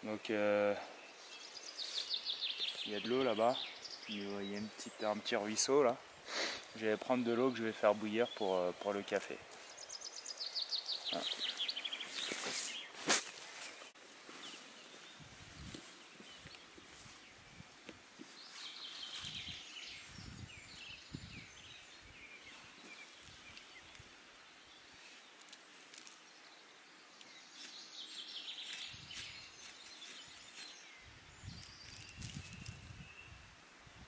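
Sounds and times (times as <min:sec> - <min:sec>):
songbirds chirping and singing: 0:00.0 - 0:13.0, 0:13.6 - 0:33.4.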